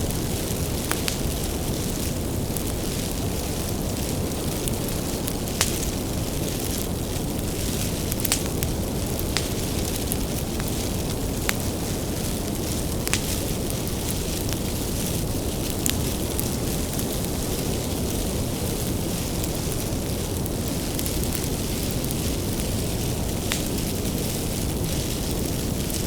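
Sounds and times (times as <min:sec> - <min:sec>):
fire low rumble: 0:00.0 - 0:26.0
firewood pops and crackles: 0:00.0 - 0:26.0.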